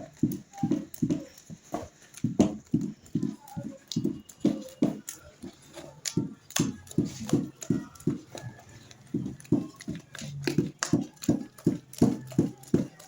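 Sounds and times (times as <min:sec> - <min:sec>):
dull rhythmic knocking: 0:00.0 - 0:13.0.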